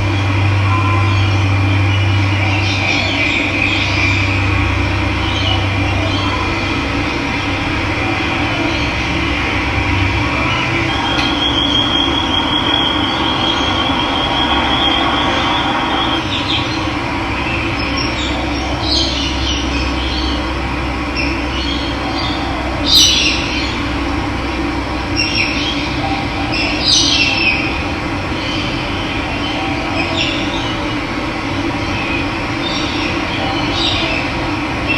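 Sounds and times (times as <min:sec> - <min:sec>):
birds calling: 0:00.0 - 0:24.1, 0:25.0 - 0:34.9.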